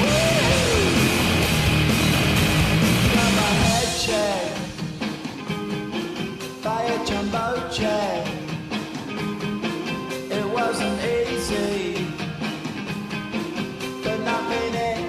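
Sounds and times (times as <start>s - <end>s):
rock song with singing: 0.0s - 15.0s.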